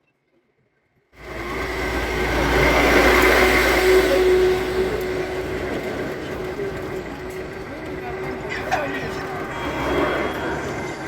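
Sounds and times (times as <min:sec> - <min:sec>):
truck passing by: 0:01.2 - 0:11.0.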